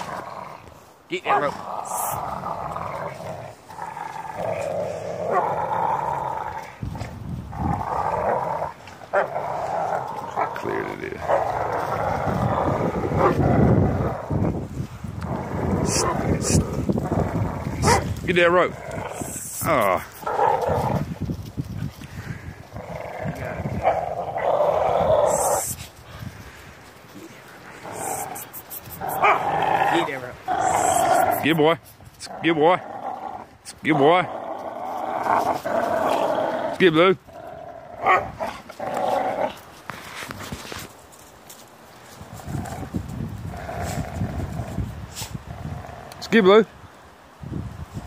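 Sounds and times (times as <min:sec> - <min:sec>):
dogs growling: 0:00.0 - 0:31.6, 0:32.2 - 0:40.9, 0:42.3 - 0:46.3.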